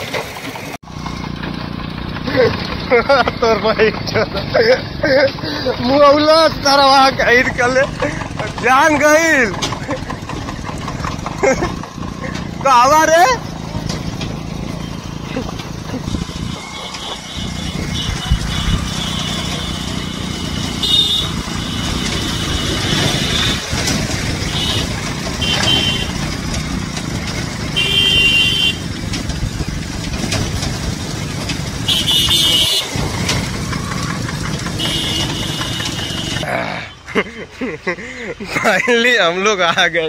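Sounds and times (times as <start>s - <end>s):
motorcycle engine running: 0.0s - 37.4s
road noise: 0.0s - 40.0s.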